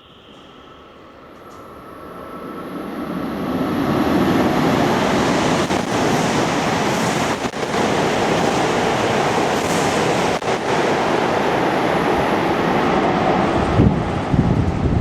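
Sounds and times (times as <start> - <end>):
train rushing past: 0.0 - 15.0.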